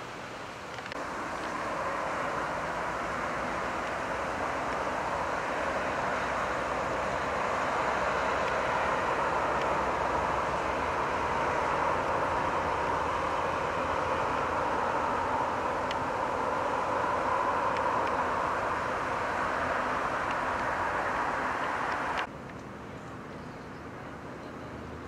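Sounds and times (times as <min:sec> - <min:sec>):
distant vehicle noise: 0:00.0 - 0:25.0.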